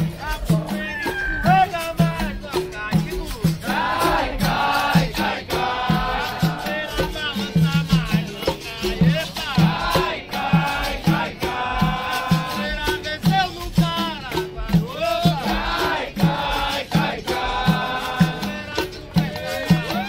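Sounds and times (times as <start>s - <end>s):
berimbaus with shaker rattles: 0.0s - 20.0s
group singing: 0.0s - 20.0s
hand drum beat: 0.0s - 20.0s
tambourines: 0.0s - 20.0s.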